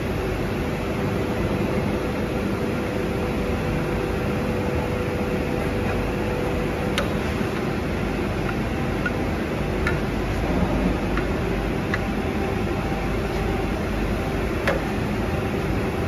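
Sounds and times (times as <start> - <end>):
workshop machinery hum: 0.0 - 16.0.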